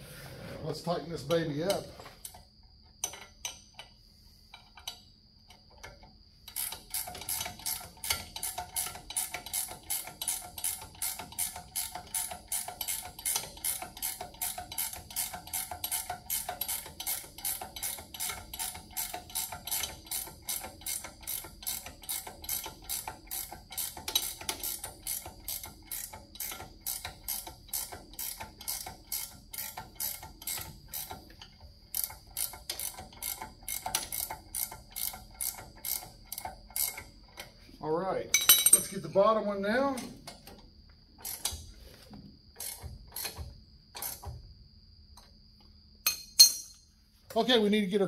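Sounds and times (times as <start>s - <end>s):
ratchet wrench clicking: 1.3s - 37.5s, 39.9s - 41.7s, 42.6s - 44.3s.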